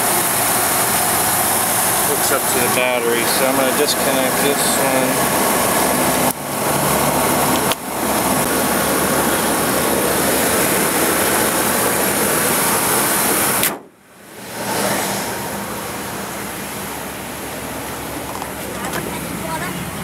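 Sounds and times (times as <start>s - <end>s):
engine running with cooling fan: 0.0s - 20.0s.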